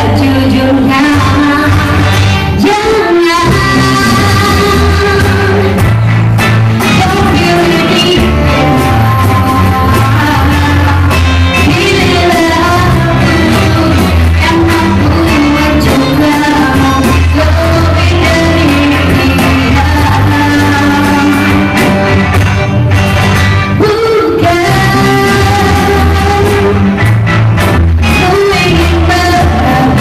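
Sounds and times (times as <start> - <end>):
woman singing into microphone: 0.0 - 6.0, 6.8 - 22.0, 23.8 - 27.0, 28.0 - 30.0
acoustic guitar: 0.0 - 30.0
bass line: 0.0 - 30.0
keyboard: 0.0 - 30.0.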